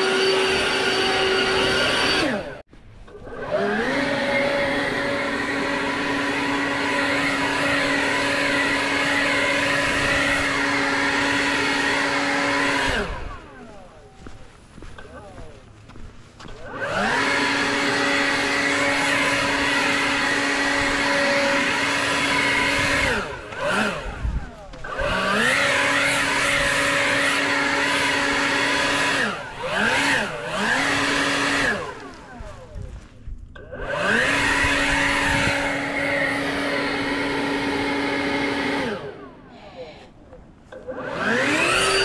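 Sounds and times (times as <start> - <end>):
leaf blower whining: 0.0 - 42.0.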